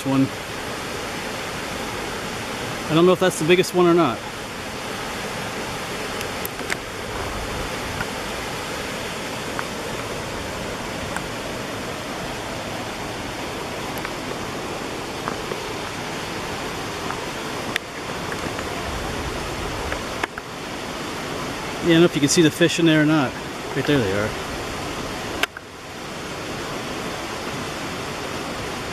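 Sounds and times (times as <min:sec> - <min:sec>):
waterfall pouring into pool: 0:00.0 - 0:28.9.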